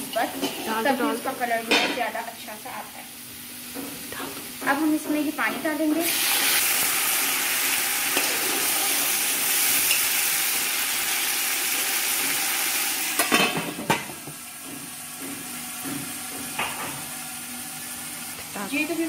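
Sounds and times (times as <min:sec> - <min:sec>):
hot oil sizzling and hissing: 0:00.0 - 0:19.0.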